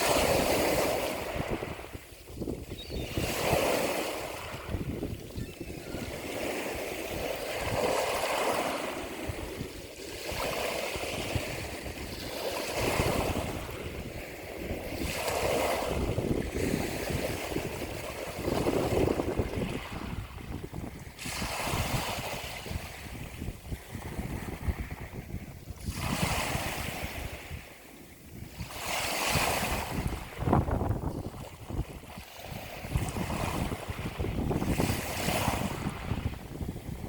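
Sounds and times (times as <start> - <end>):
ocean waves washing in: 0.0 - 37.0
wind rumbling on microphone: 0.0 - 37.0.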